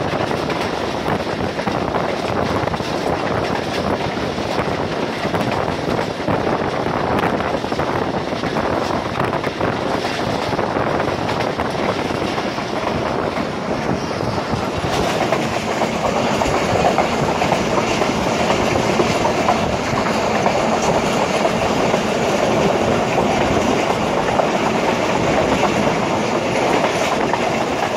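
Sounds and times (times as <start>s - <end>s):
train wheels on rails: 0.0s - 27.9s.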